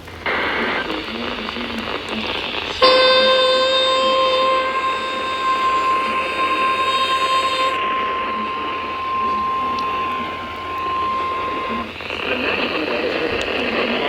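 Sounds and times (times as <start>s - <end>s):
radio static: 0.0s - 14.0s
high warning beep: 0.3s - 13.6s.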